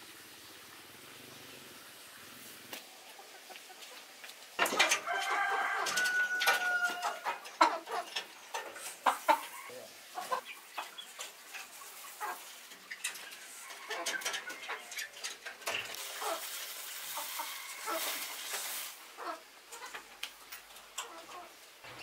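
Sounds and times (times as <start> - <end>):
chickens clucking: 2.7 - 22.0.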